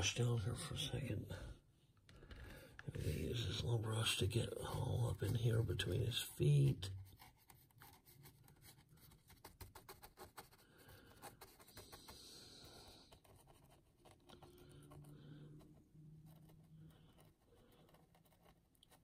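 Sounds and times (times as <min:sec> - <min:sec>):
paintbrush dabbing thick paste: 0:02.9 - 0:19.0.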